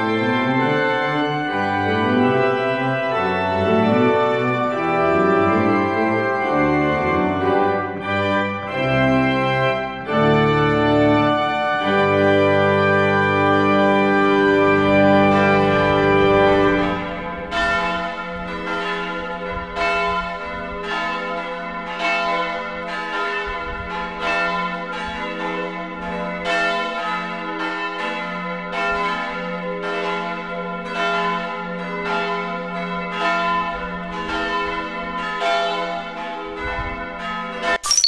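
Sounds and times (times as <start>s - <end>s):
church bells pealing: 0.0s - 37.8s.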